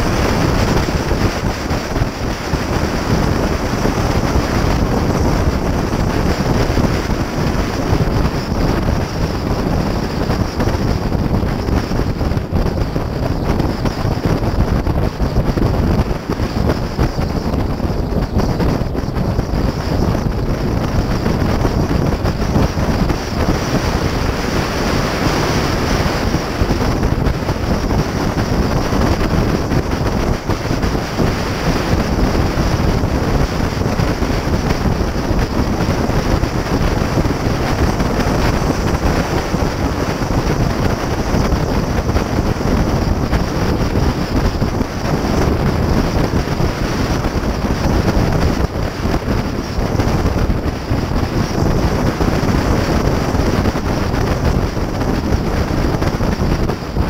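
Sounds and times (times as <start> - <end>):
road and engine rumble: 0.0 - 57.0
wind buffeting microphone: 0.0 - 57.0.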